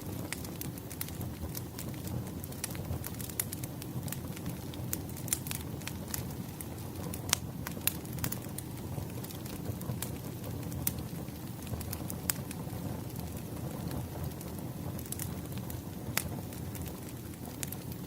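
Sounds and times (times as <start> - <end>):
firewood crackling and popping: 0.0 - 18.0
low rush of flame: 0.0 - 18.0.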